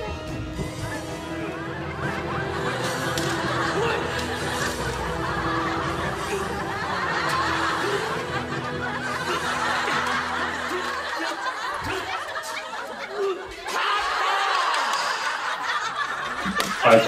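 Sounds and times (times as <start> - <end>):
audience laughing: 0.0 - 17.0.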